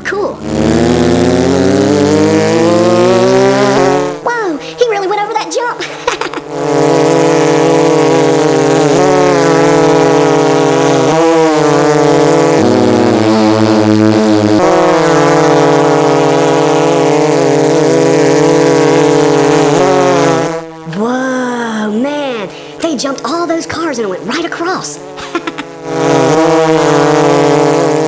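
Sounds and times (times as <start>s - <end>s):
monster truck engines running: 0.0s - 6.3s, 6.9s - 25.0s.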